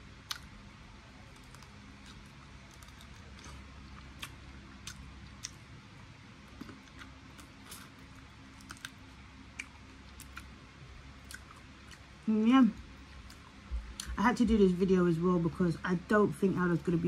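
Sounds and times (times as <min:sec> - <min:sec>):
faint steady hum: 0:00.0 - 0:17.0
soft chewing clicks and crunches: 0:00.1 - 0:14.2.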